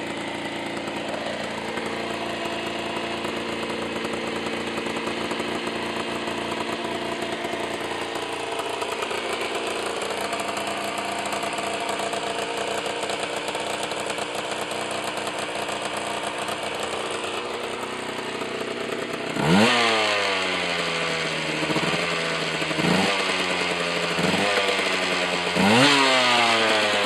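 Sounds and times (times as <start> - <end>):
two-stroke engine idling: 0.0 - 27.0.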